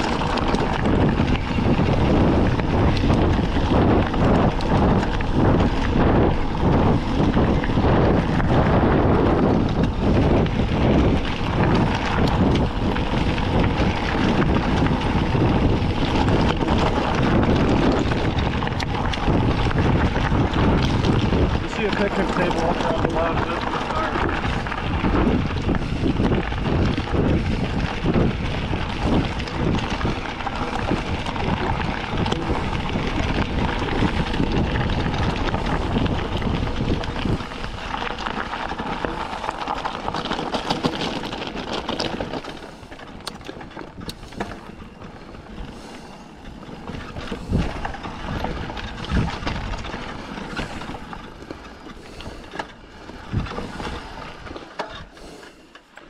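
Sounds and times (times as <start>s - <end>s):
wind buffeting microphone: 0.0s - 55.4s
bike clicks and knocks: 0.0s - 56.0s
bike frame rattle: 0.0s - 56.0s
bike tyres rumbling on gravel: 0.0s - 56.0s.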